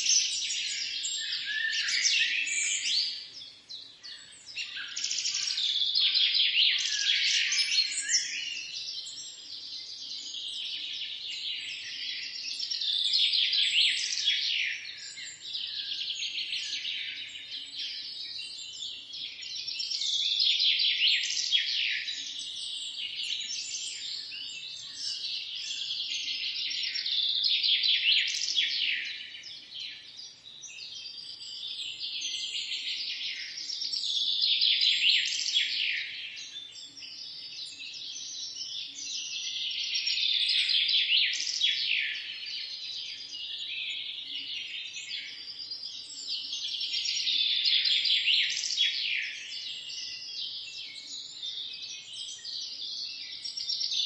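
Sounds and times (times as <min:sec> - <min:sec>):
songbirds chorus: 0:00.0 - 0:54.0.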